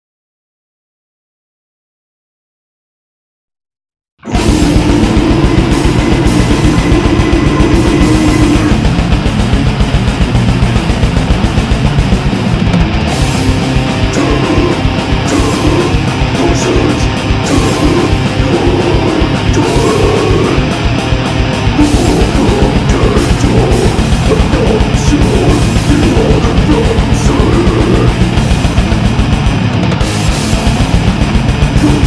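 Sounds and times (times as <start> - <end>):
distorted electric guitars: 4.2 - 32.0
fast drumming: 4.3 - 32.0.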